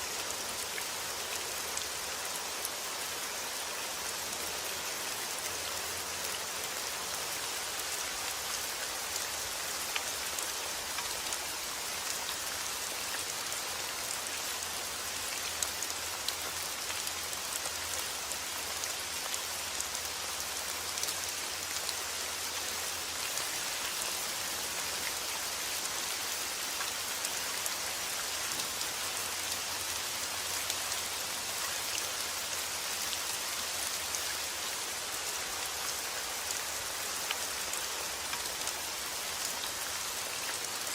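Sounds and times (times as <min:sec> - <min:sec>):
hiss of rain: 0:00.0 - 0:40.9.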